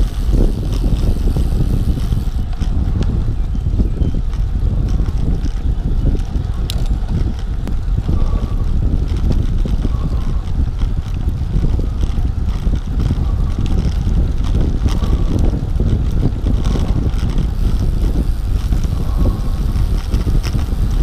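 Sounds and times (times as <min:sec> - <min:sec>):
bicycle tyres rolling: 0:00.0 - 0:21.0
wind buffeting microphone: 0:00.0 - 0:21.0.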